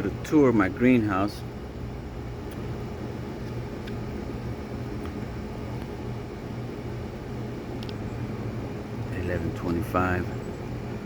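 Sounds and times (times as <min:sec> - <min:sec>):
low pulsing machine hum: 0:00.0 - 0:11.0.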